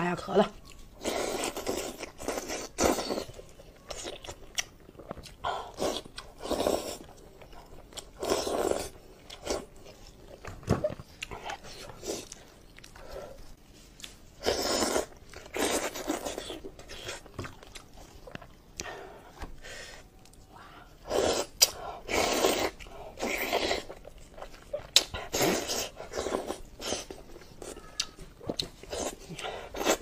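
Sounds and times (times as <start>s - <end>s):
person chewing meat: 0.6s - 19.5s, 21.2s - 30.0s.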